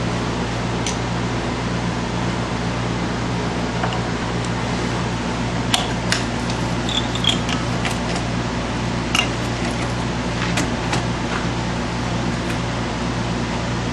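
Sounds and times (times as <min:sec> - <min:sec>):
fan-like hum: 0:00.0 - 0:13.9.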